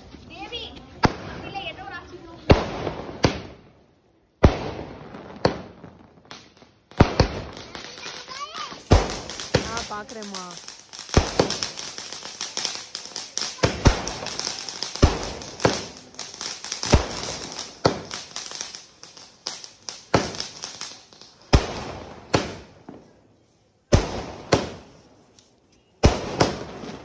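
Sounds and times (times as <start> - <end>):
hissing crackle of fireworks: 0.0 - 27.0
firework bangs: 0.5 - 3.8, 4.4 - 23.1, 23.9 - 25.2, 26.0 - 27.0.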